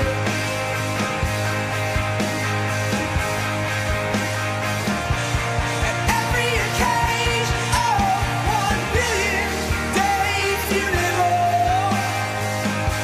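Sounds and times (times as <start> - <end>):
rock song with singing: 0.0 - 13.0.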